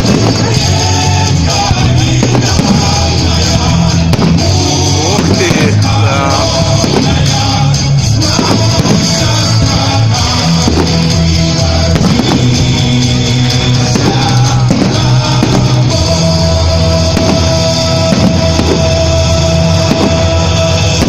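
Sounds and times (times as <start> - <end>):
loud rock band music: 0.0 - 21.0.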